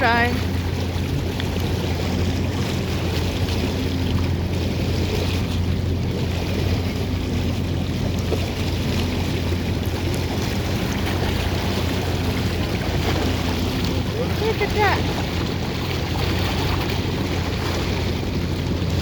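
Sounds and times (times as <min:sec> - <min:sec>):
constant low hum: 0:00.0 - 0:19.0
surf: 0:00.0 - 0:19.0
wind: 0:00.0 - 0:19.0.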